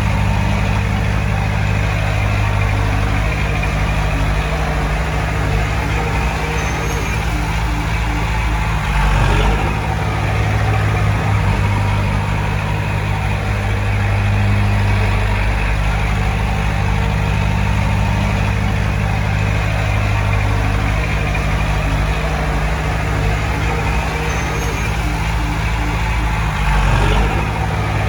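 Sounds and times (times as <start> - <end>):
diesel engine humming: 0.0 - 28.0.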